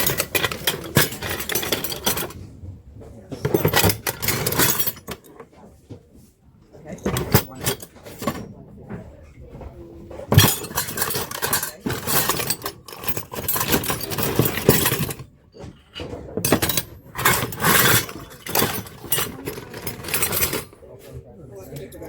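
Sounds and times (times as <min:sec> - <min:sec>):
glassware and dishes clattering: 0:00.0 - 0:05.9, 0:06.7 - 0:22.0.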